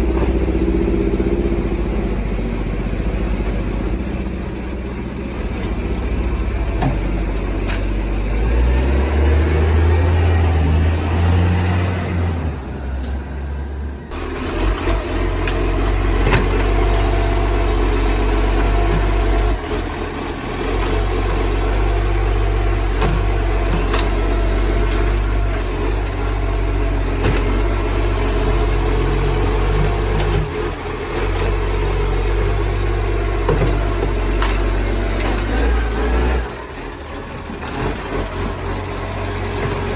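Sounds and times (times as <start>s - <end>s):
raspy diesel truck engine: 0.0s - 39.9s.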